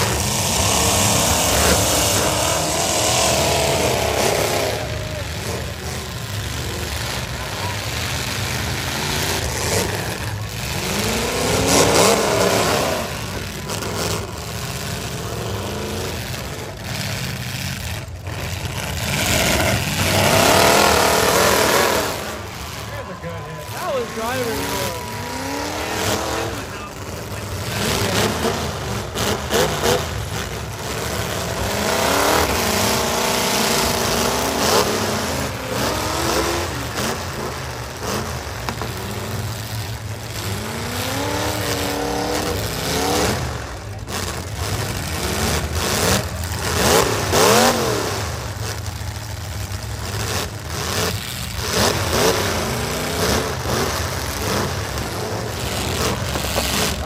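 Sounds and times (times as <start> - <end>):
truck engines revving hard: 0.0 - 57.0.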